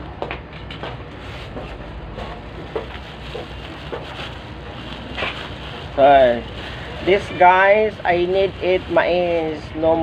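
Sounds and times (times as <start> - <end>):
low background rumble: 0.0 - 10.0
plastic bag crinkling: 1.2 - 10.0.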